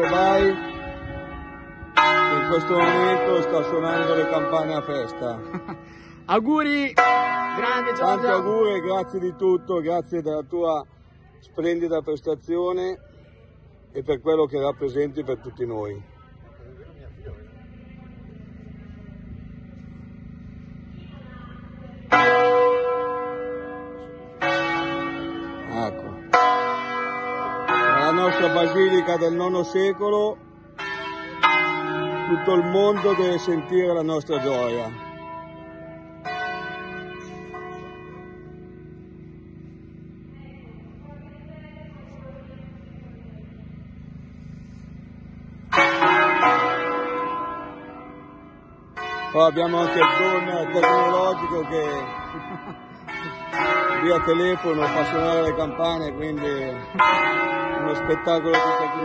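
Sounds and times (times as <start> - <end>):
church bells pealing: 0.0 - 16.4, 17.4 - 59.0.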